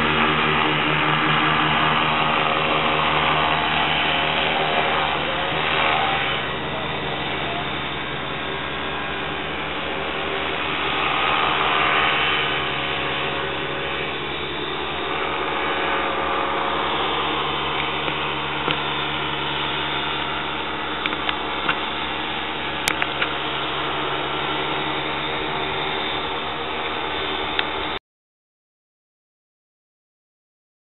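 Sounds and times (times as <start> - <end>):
paramotor engine droning: 0.0 - 28.0.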